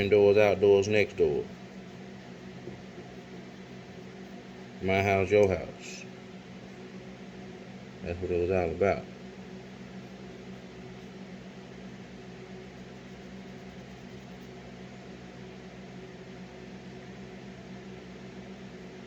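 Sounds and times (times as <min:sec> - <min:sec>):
constant hiss: 0:00.0 - 0:16.5
machine hum: 0:00.0 - 0:19.0.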